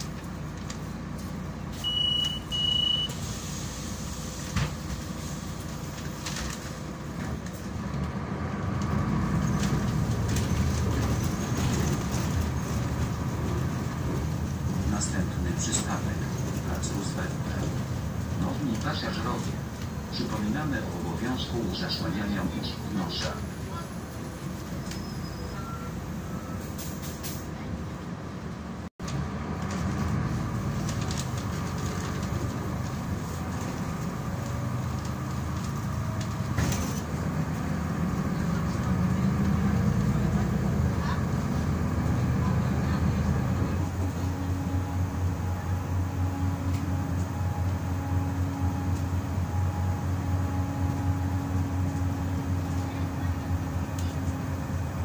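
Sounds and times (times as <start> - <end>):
bus engine and drivetrain: 0.0 - 55.0.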